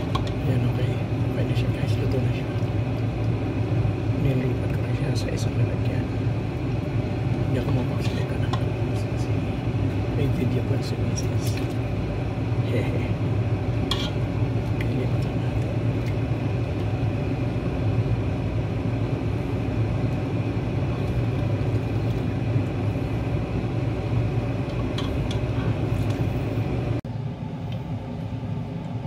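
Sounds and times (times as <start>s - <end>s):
broth boiling: 0.0s - 29.0s
low kitchen hum: 0.0s - 29.0s.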